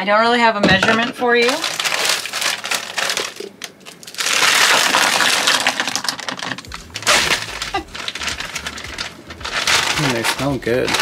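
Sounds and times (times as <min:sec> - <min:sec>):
frozen berries clattering: 0:00.7 - 0:11.0
plastic bag crinkling: 0:01.3 - 0:11.0.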